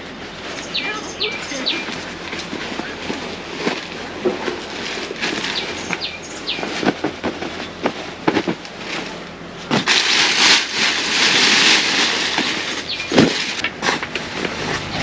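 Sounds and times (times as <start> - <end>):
bedding rustling and crinkling: 0.0 - 15.0.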